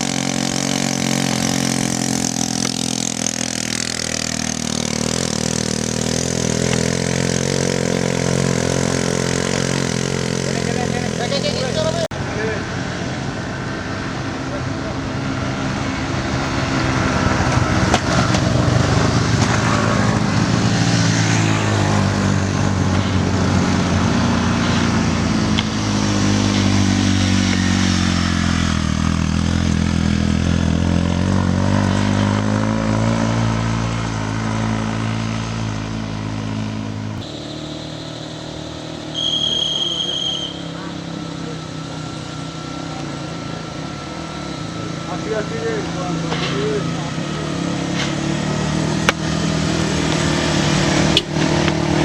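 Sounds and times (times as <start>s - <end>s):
vehicle engine running hard: 0.0s - 52.0s.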